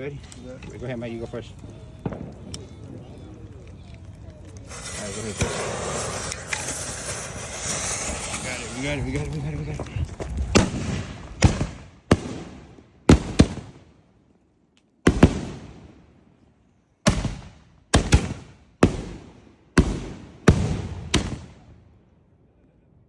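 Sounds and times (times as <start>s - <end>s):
fireworks bangs with echo: 0.5s - 13.9s, 15.1s - 16.2s, 17.1s - 21.8s.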